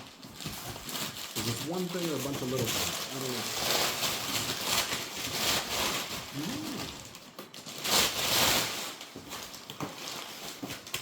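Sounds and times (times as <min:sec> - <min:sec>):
cardboard packaging rustling: 0:00.0 - 0:11.0.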